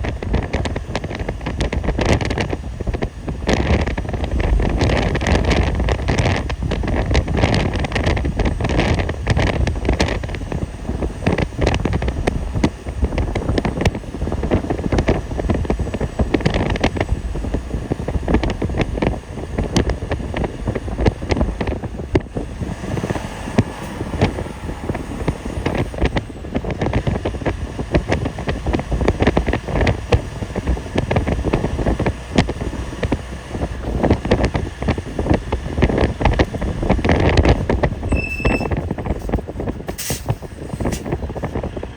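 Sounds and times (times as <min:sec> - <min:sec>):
crackles and knocks: 0:00.0 - 0:38.0
road and wind noise: 0:00.0 - 0:41.9.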